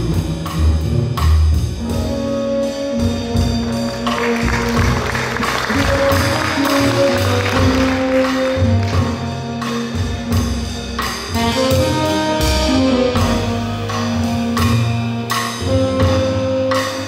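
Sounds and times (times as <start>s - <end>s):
drum kit with cymbals: 0.0s - 17.0s
walking upright bass: 0.0s - 17.0s
horn playing long melody notes: 1.8s - 17.0s.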